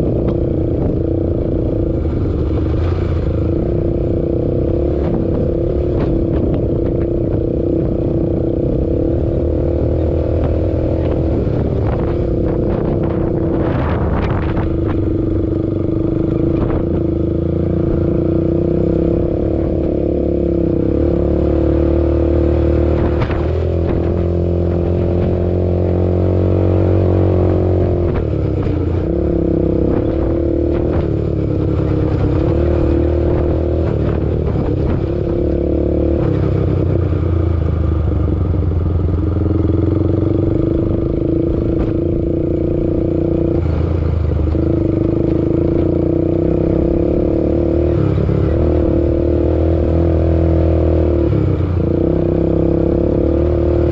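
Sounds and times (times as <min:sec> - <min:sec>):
atv engine revving: 0:00.0 - 0:37.8, 0:39.2 - 0:53.9.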